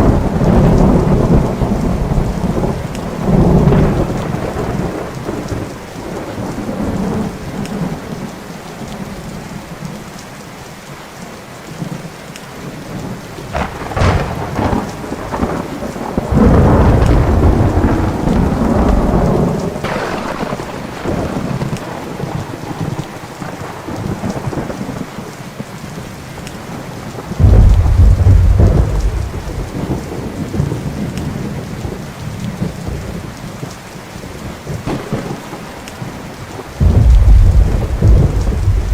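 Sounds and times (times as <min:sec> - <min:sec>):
thunder crack and rumble: 0:00.0 - 0:08.3, 0:13.0 - 0:25.3, 0:27.0 - 0:33.8, 0:34.4 - 0:38.9
steady rain: 0:00.0 - 0:38.9.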